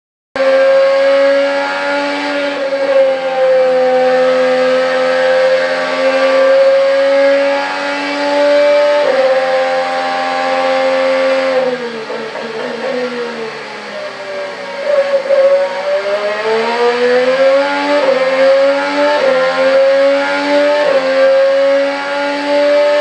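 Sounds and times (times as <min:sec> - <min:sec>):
gearshift: 0:00.4 - 0:23.0
race car engine at high revs: 0:00.4 - 0:23.0.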